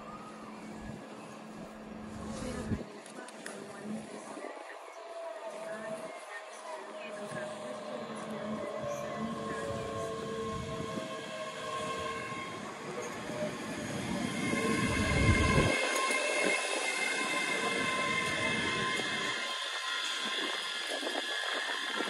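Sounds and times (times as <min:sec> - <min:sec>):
wheel and rail noise: 0:00.0 - 0:22.0
electric train whining: 0:03.6 - 0:22.0.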